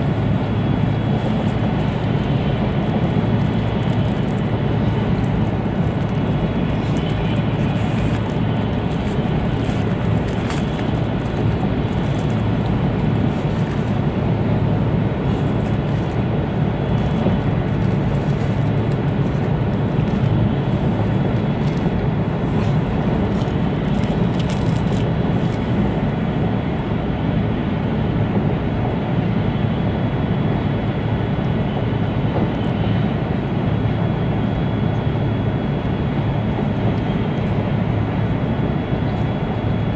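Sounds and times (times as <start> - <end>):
train cabin low rumble: 0.0 - 39.9.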